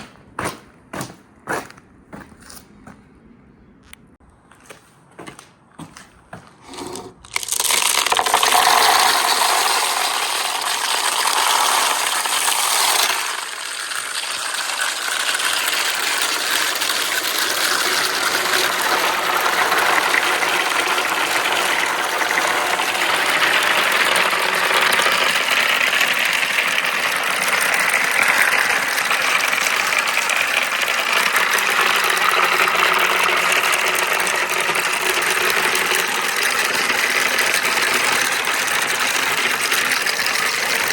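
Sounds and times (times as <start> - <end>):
marbles rattling on wooden run: 6.6 - 40.9.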